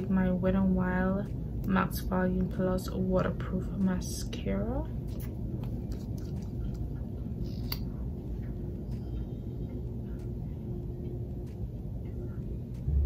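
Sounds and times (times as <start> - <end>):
faint constant hum: 0.0 - 13.0
low room rumble: 0.0 - 13.0.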